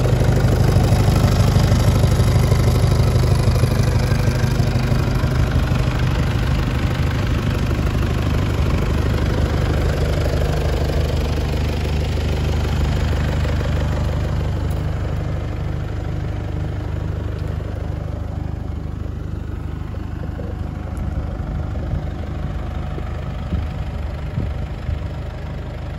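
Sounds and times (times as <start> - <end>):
forklift engine idling: 0.0 - 25.9.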